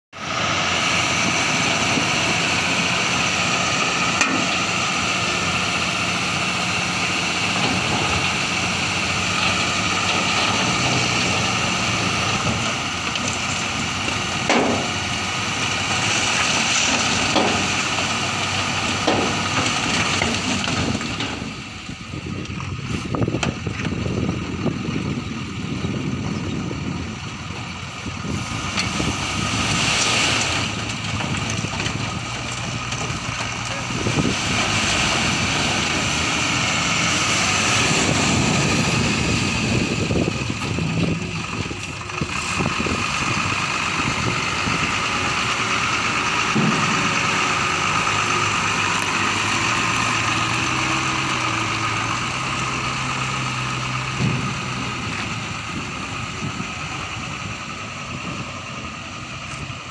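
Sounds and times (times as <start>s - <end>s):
truck diesel engine running: 0.1s - 59.9s.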